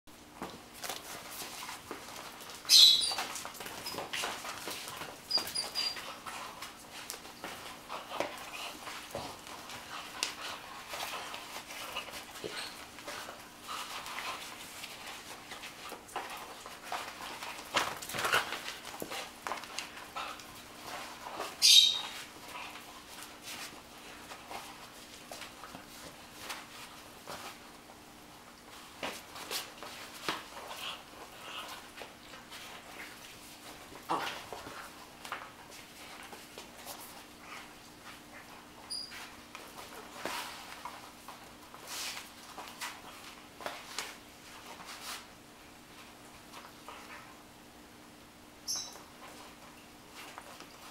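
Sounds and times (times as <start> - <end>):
rag flapping and scuffing: 0.4 - 28.0, 28.7 - 45.4.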